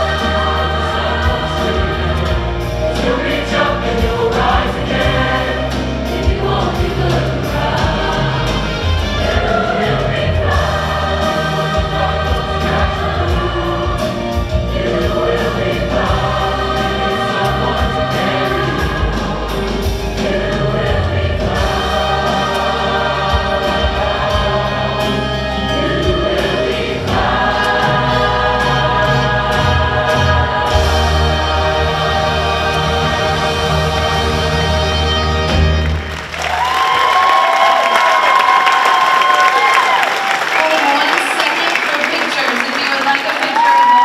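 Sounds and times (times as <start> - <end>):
choir singing: 0.0 - 40.2.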